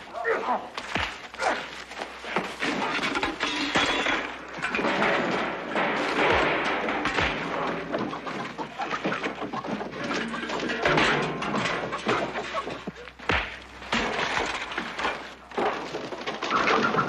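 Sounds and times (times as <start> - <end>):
bodies hitting things: 0.0 - 17.0
punches landing: 0.5 - 9.4, 10.8 - 16.8.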